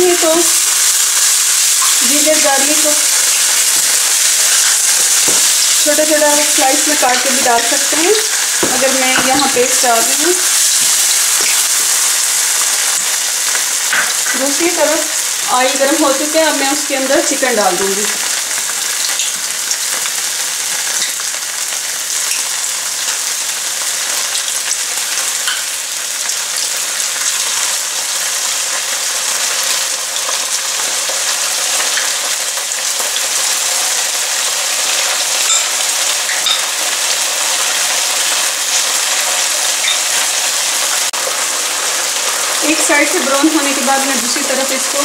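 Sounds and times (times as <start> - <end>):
chicken frying in hot oil: 0.0 - 45.0
onions sizzling in oil: 0.0 - 45.0.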